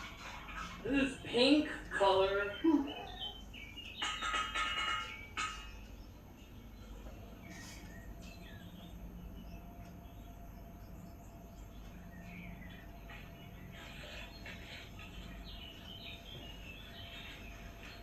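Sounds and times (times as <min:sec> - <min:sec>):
bird chirps: 0:00.0 - 0:18.0
low steady background: 0:00.0 - 0:18.0.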